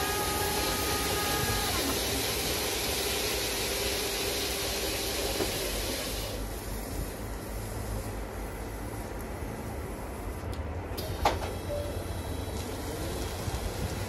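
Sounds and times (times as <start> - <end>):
machine low hum: 0.0 - 14.0.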